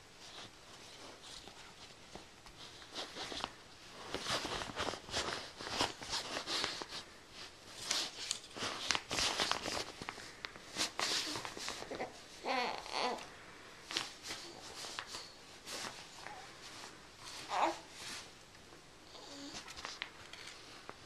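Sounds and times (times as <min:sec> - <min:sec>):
fabric and paper rustling: 0:00.0 - 0:21.0.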